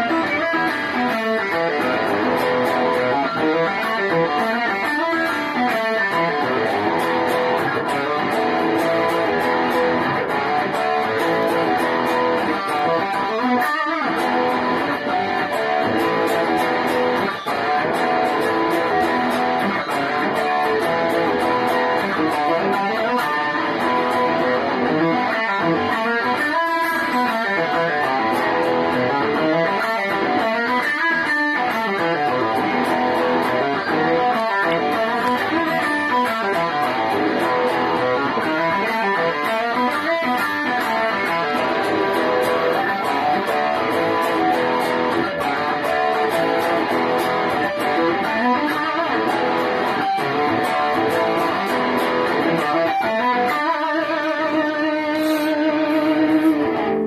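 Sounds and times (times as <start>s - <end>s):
electric guitar southern rock: 0.0s - 57.0s.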